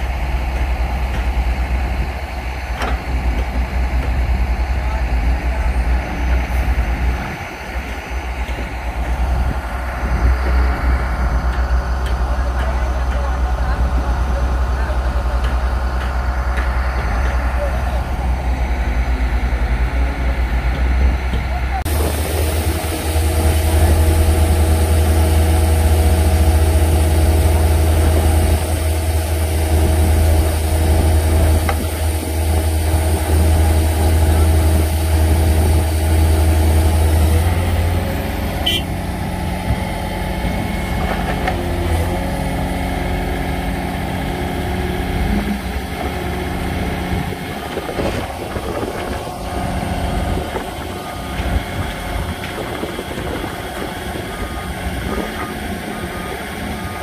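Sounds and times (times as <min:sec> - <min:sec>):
excavator diesel engines humming: 0:00.0 - 0:57.0.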